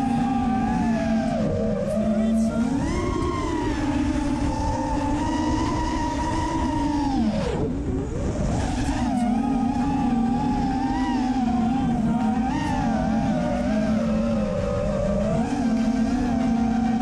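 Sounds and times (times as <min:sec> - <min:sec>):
drone motors whining: 0:00.0 - 0:17.0
low wind rumble: 0:00.0 - 0:17.0.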